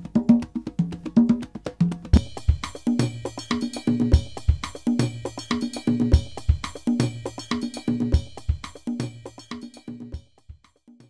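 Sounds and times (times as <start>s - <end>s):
drum and percussion rhythm: 0.0s - 11.0s.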